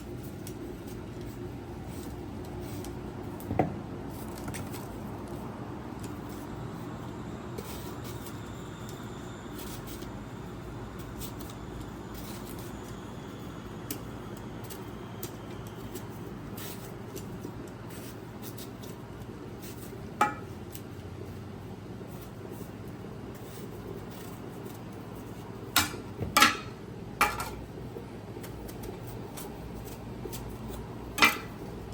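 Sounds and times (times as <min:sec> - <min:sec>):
low background hum: 0:00.0 - 0:31.9.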